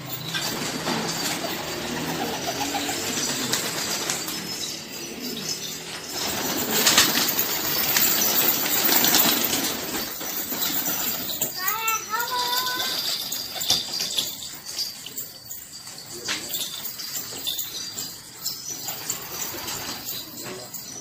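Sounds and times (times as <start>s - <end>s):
pigeons flapping wings: 0.0s - 21.0s.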